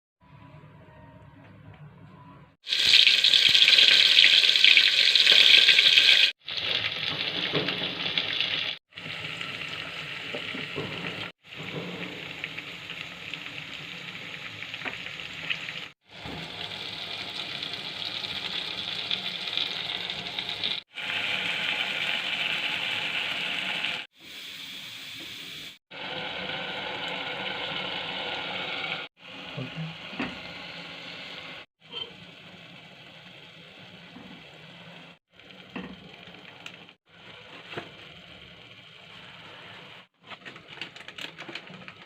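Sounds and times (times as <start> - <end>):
food sizzling in a pan: 2.6 - 40.1.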